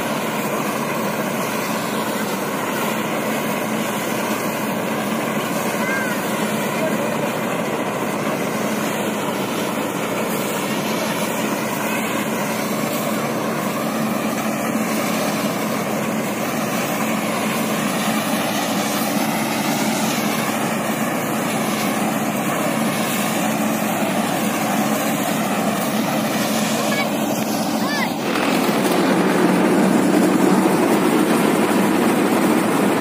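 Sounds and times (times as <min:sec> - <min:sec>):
diesel engine drone: 0:00.0 - 0:33.0
threshing machinery whirring: 0:00.0 - 0:33.0.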